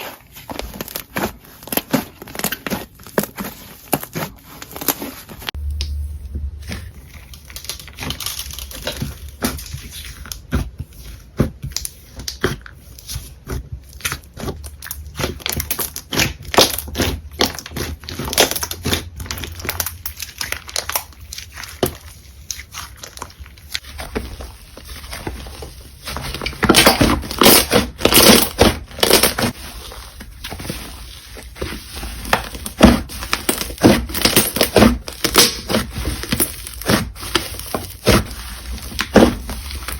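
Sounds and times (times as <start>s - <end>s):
slime crackling and crunching: 0.0s - 39.9s.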